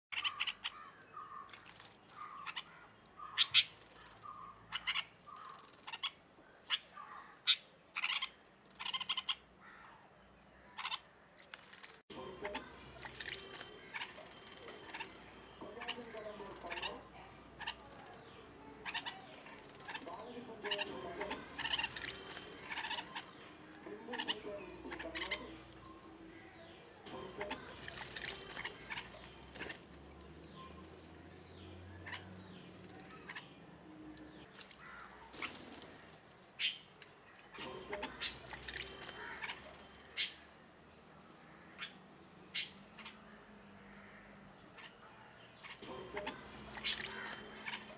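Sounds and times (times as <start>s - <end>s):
small birds chirping: 0.1s - 47.9s.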